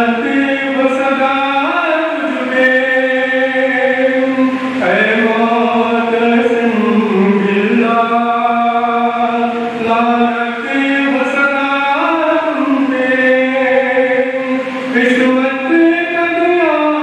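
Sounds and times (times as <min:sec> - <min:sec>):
man chanting a lament: 0:00.0 - 0:17.0.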